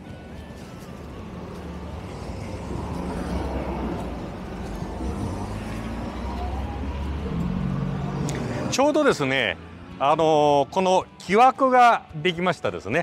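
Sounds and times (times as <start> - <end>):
traffic engine hum: 0.0 - 12.7.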